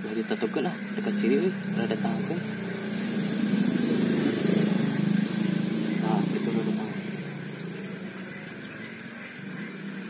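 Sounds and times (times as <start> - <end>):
low droning engine: 0.0 - 10.0
night insects high tones: 0.0 - 10.0.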